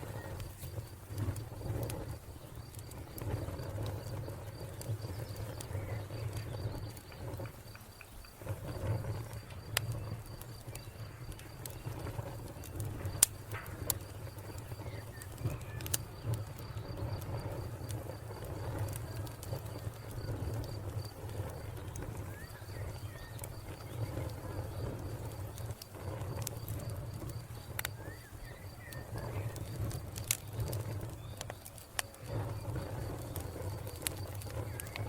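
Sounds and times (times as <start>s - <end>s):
cricket chirping: 0.0s - 35.0s
wood fire crackling: 0.0s - 35.0s.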